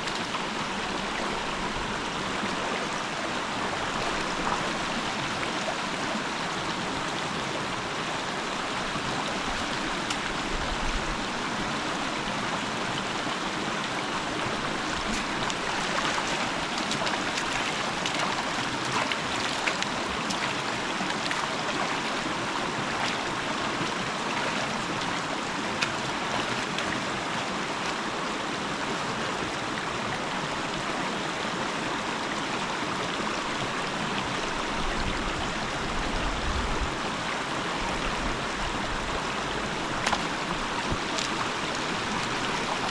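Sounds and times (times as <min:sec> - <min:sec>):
river rushing over rocks: 0:00.0 - 0:42.9.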